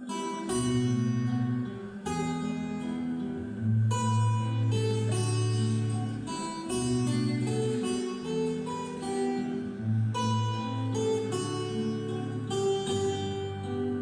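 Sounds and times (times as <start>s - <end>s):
plucked guitar-like melody: 0.0s - 14.0s.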